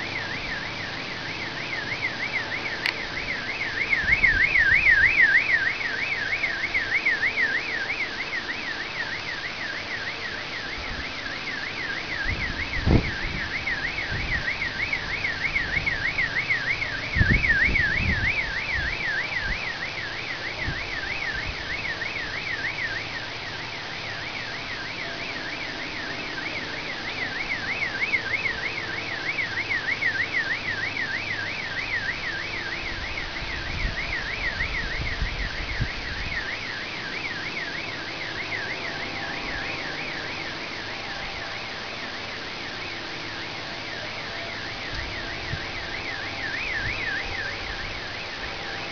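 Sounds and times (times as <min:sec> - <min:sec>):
car alarm siren warbling: 0:00.0 - 0:48.9.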